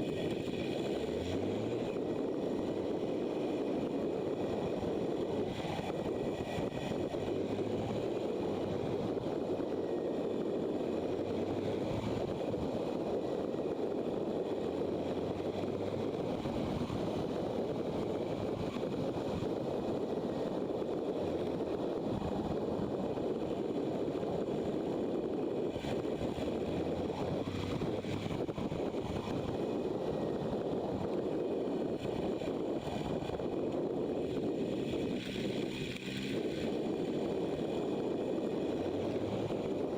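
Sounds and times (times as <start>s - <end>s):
motorcycle engine and wind: 0.0s - 39.9s.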